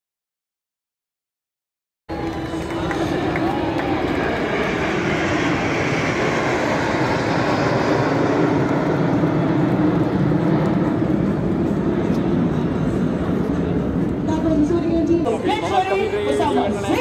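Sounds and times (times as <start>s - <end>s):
jet formation flying past: 2.1s - 17.0s.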